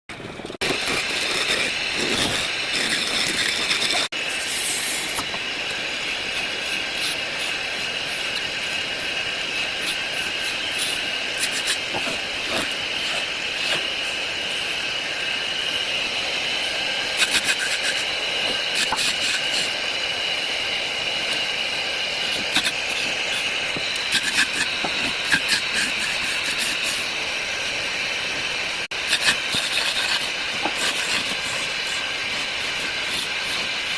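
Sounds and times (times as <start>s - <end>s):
power tool whining: 0.4s - 33.9s.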